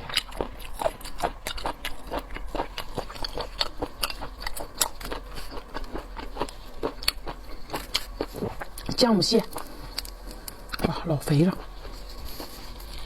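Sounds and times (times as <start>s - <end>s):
chewing and biting seafood: 0.0s - 10.9s.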